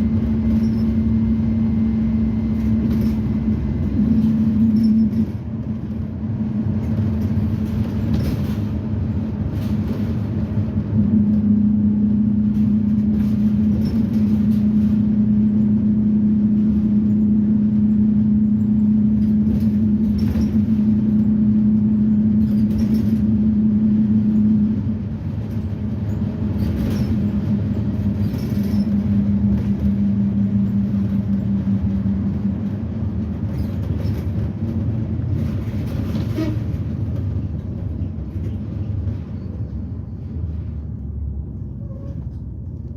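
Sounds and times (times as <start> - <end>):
bus engine drone: 0.0 - 42.9
low road rumble: 0.0 - 42.9.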